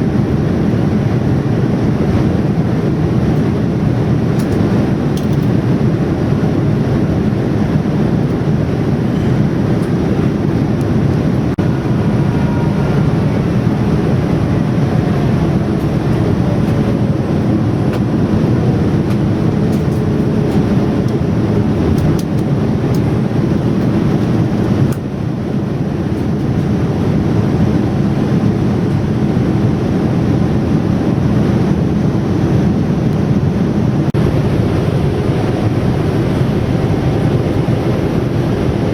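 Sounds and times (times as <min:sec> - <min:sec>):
jet cabin engine and airflow rushing: 0:00.0 - 0:38.9.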